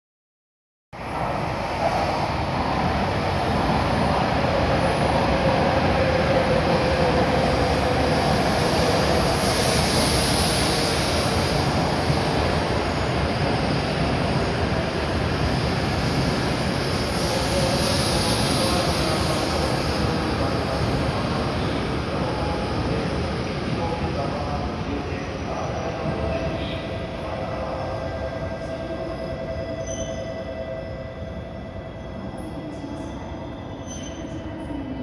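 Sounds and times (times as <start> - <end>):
train rumbling slowly into station: 1.0 - 35.0.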